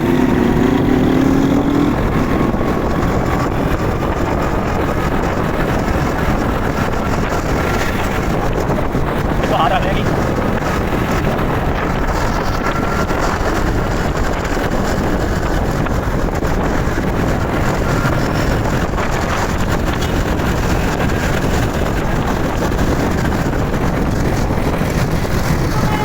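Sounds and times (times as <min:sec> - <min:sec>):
motorbike engine: 0:00.0 - 0:26.0
road noise: 0:00.0 - 0:26.0
wind rushing over microphone: 0:00.0 - 0:26.0.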